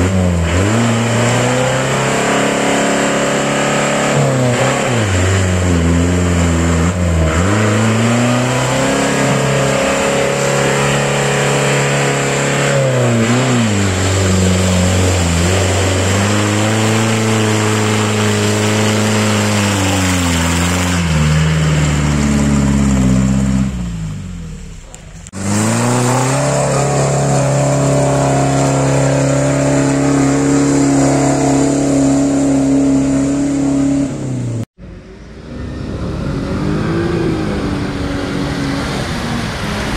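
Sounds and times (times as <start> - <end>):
off-road engine revving: 0.0 - 39.9.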